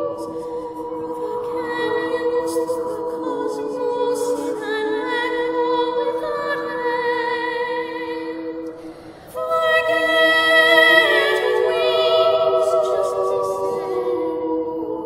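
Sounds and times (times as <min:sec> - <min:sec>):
a cappella vocals with vibrato: 0:00.0 - 0:15.0.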